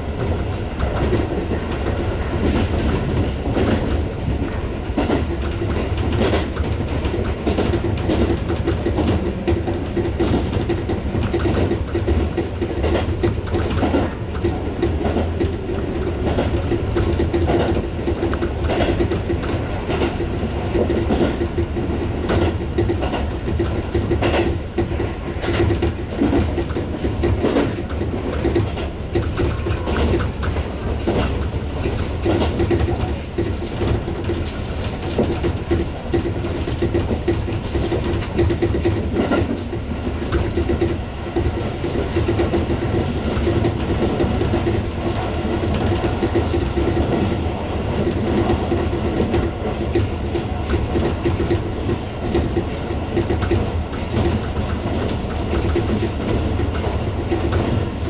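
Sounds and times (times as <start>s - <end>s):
train rolling rumble and hum: 0.0s - 58.0s
wheels clacking over rail joints: 0.0s - 58.0s.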